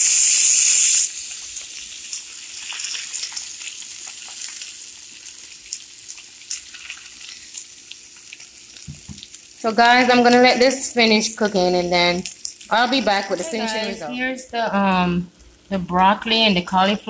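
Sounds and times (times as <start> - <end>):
fish sizzling on a grill: 0.0 - 14.2.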